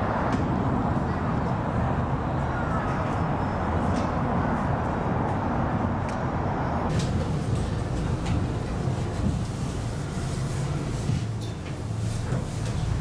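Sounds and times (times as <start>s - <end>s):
tram cabin low rumble: 0.0s - 13.0s.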